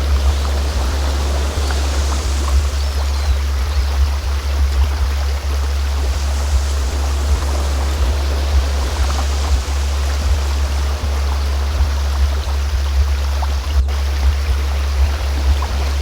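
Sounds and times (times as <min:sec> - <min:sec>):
loud low hum tone: 0:00.0 - 0:16.0
stream water running: 0:00.0 - 0:16.0.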